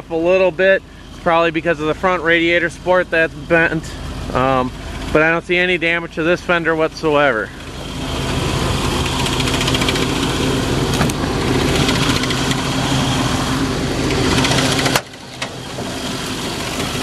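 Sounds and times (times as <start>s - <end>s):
truck engine idling: 0.0s - 17.0s
cooling fan rattling on shroud: 0.1s - 17.0s.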